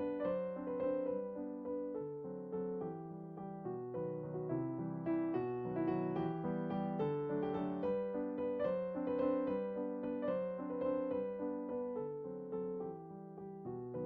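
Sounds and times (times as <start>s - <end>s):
gentle piano piece: 0.0s - 14.0s.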